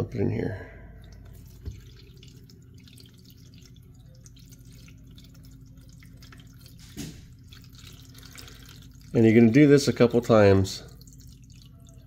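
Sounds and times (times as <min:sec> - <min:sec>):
water trickling and splashing: 0:00.9 - 0:12.0.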